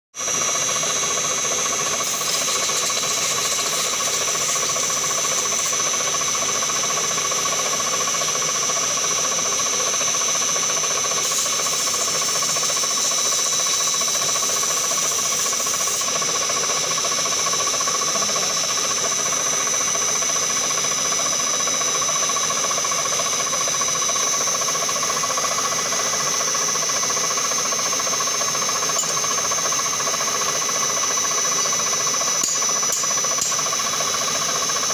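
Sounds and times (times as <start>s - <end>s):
milling machine whine and hiss: 0.2s - 34.9s.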